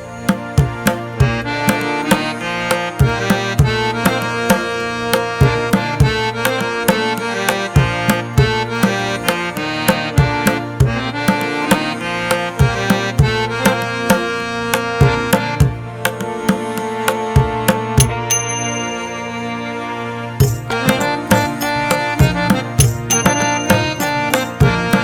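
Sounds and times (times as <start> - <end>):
sustained melodic notes: 0.0 - 25.0.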